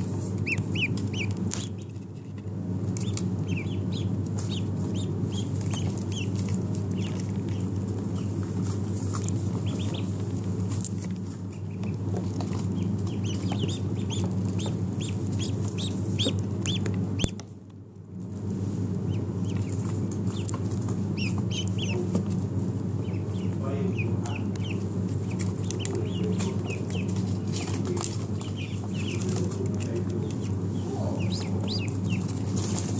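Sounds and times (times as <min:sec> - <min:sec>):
ducklings peeping: 0:00.0 - 0:17.6, 0:18.8 - 0:32.9
steady low hum: 0:00.0 - 0:32.9.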